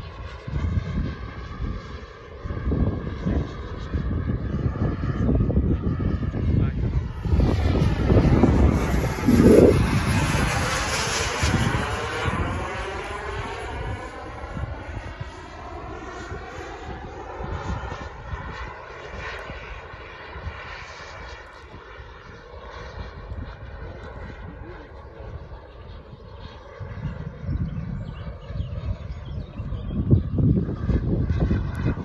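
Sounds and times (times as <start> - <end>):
model jet turbine whine: 0.0 - 32.0
wind buffeting microphone: 0.0 - 32.0.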